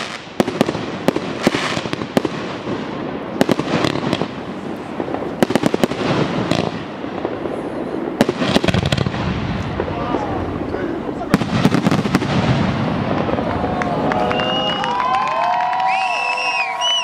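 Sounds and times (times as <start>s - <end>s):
firework shells bursting with bangs: 0.0s - 13.7s
fireworks crackling and hissing: 0.0s - 17.0s.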